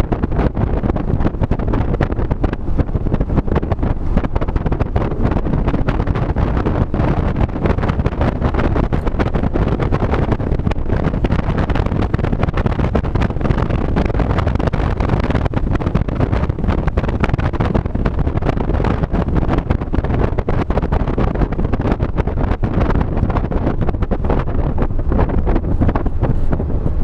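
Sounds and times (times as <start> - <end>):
engine and road rumble: 0.0 - 27.0
wind buffeting microphone: 0.0 - 27.0.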